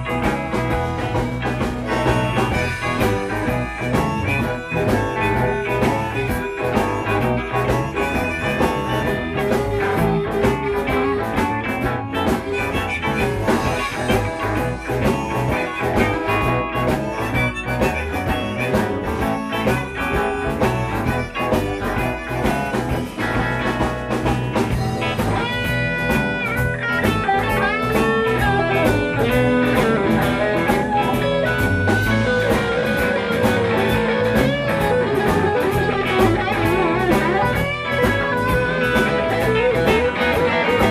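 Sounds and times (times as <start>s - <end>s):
bass guitar: 0.0s - 40.9s
drum kit beat: 0.0s - 40.9s
electric guitars: 0.0s - 40.9s
harmonica: 0.0s - 40.9s.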